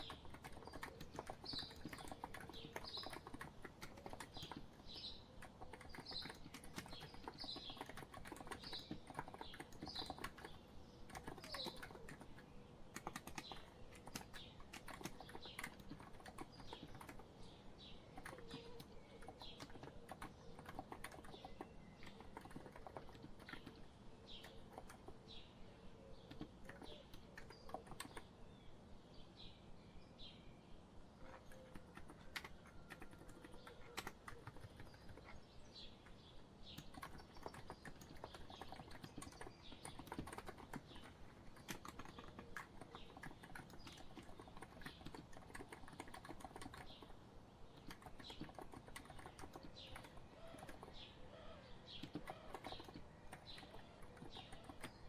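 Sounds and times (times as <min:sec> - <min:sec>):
keyboard typing: 0:00.0 - 0:17.4, 0:18.2 - 0:25.2, 0:26.3 - 0:28.3, 0:31.4 - 0:35.4, 0:36.0 - 0:51.2, 0:51.9 - 0:55.0
birds chirping: 0:00.0 - 0:30.4, 0:31.2 - 0:55.0.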